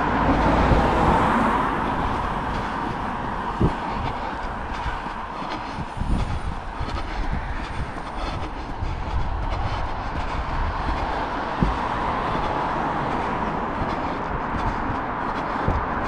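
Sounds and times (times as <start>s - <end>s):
traffic noise: 0.0s - 16.0s
camera rumbling and bumping: 1.9s - 16.0s.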